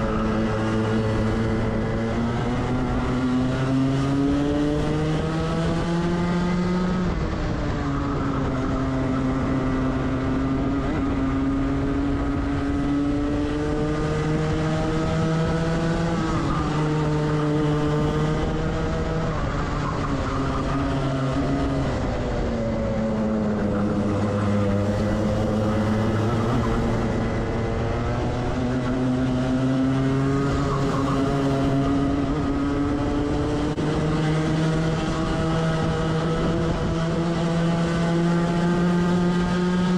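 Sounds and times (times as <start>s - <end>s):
kart engine accelerating: 0.0s - 39.9s
other kart engines: 0.0s - 39.9s.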